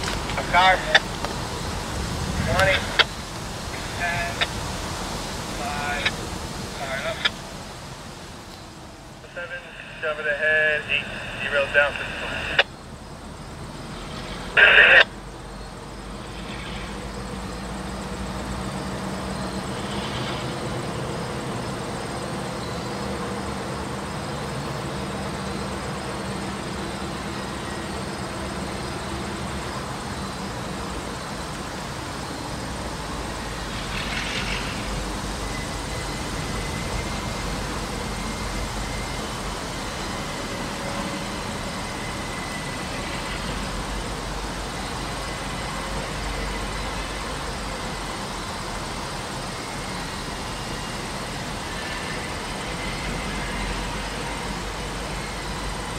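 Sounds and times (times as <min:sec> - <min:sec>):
diesel locomotive engine running: 0:00.0 - 0:55.9.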